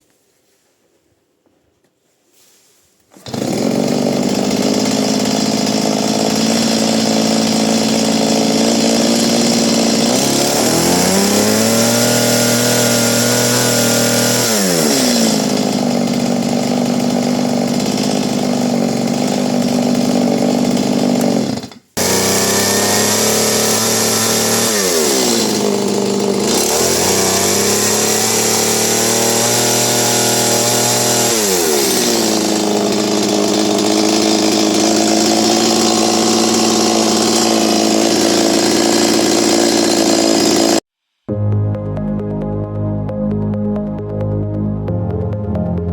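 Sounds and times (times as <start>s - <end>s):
chainsaw idling and revving: 3.2s - 40.9s.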